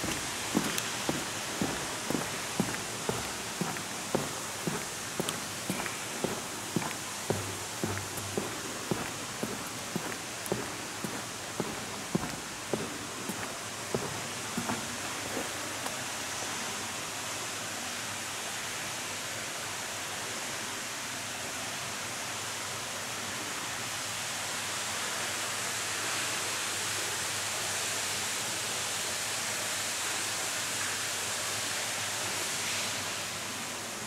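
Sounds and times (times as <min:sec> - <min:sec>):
rushing noise in tunnel station: 0:00.0 - 0:34.0.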